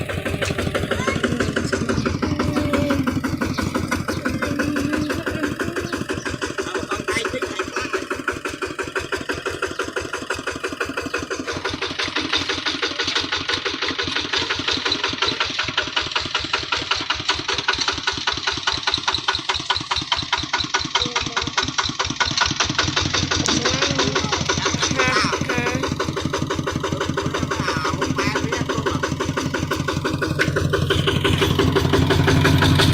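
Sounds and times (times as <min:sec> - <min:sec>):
diesel engine chugging: 0:00.0 - 0:32.9.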